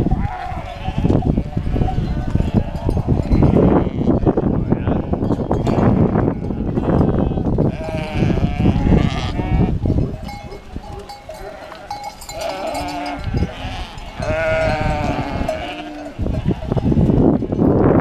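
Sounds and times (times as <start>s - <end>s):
sheep bleating: 0.1s - 5.3s, 5.9s - 9.8s, 11.3s - 16.9s.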